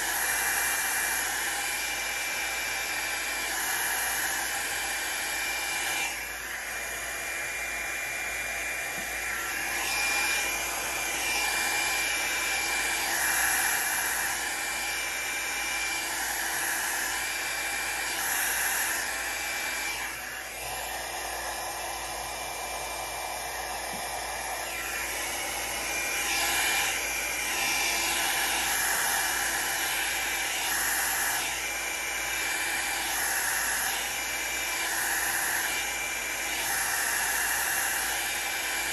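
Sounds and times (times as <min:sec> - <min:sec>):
hot-air brush blowing air: 0:00.0 - 0:38.9.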